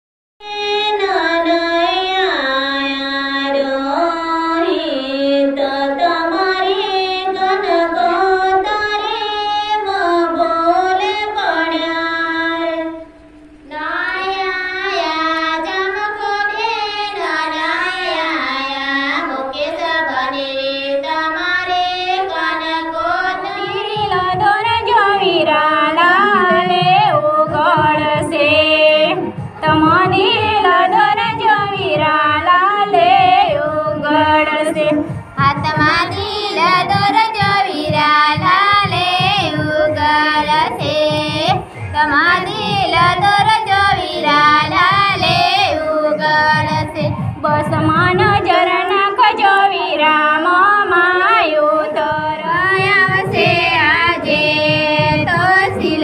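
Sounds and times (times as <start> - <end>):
women singing into a microphone: 0.4 - 56.0.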